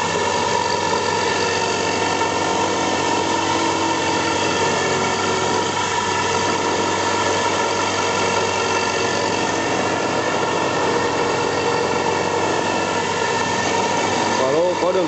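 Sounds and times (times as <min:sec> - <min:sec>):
high steady whining tones: 0:00.0 - 0:15.0
milling machine humming: 0:00.0 - 0:15.0.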